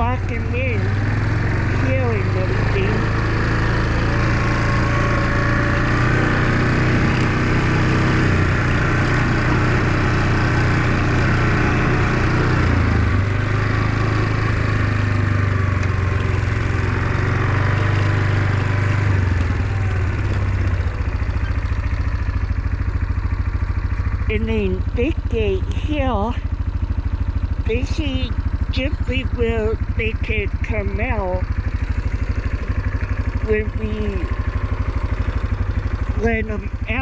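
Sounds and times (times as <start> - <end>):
engine running: 0.0 - 37.0.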